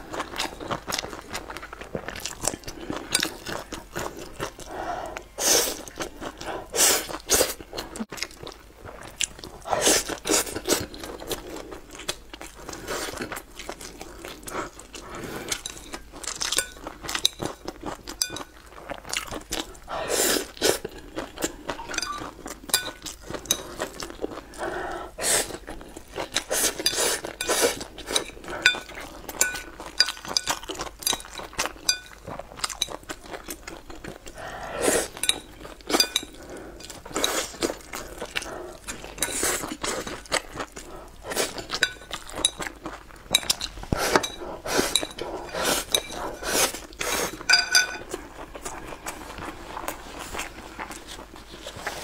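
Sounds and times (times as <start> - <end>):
crunchy chewing of food: 0.0 - 52.0.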